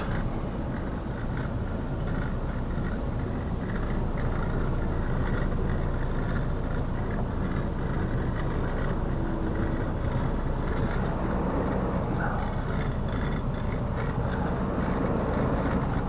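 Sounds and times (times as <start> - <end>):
truck diesel engine at low revs: 0.0 - 16.0.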